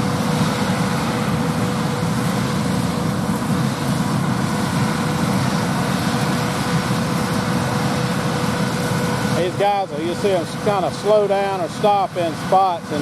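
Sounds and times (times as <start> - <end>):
steady machinery whine: 0.0 - 13.0.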